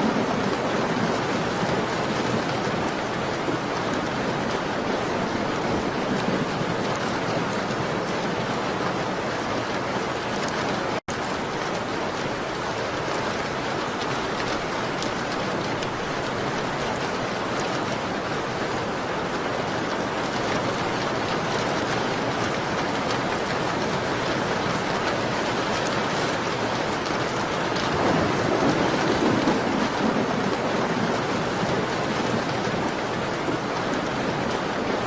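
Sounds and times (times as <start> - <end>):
rain beating on a window: 0.0 - 35.0.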